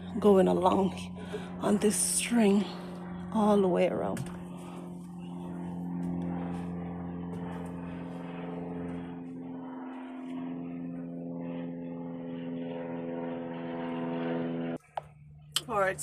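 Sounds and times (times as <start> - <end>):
engine drone: 0.0 - 16.0.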